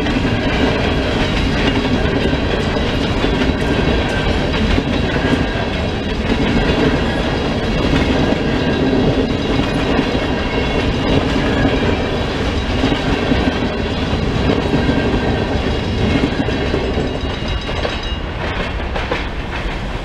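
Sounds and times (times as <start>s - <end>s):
crossing bells ringing: 0.0s - 18.4s
train wheels clacking on rails: 0.0s - 20.0s.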